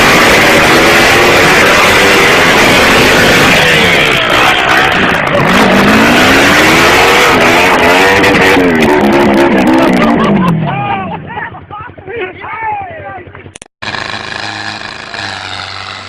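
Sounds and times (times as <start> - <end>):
tractor engine revving: 0.0 - 12.0, 13.4 - 16.0.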